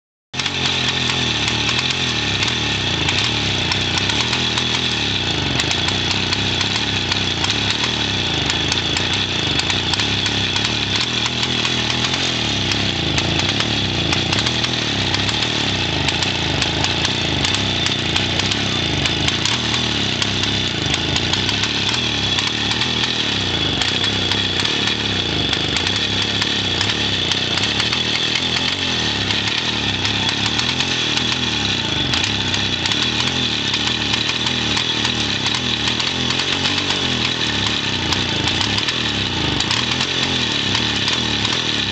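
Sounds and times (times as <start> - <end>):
two-stroke moped engine running: 0.4 - 41.9.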